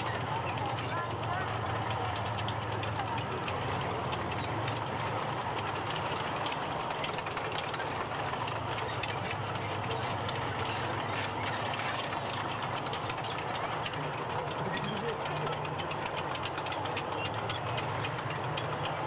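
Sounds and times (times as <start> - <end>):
steel track links clattering: 0.0 - 19.0
tank diesel engine running: 0.0 - 19.0.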